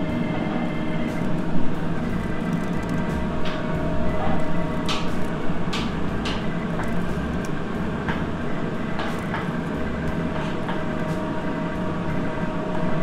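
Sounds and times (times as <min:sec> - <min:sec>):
constant whine: 0:00.0 - 0:13.0
kitchen machinery hum: 0:00.0 - 0:13.0.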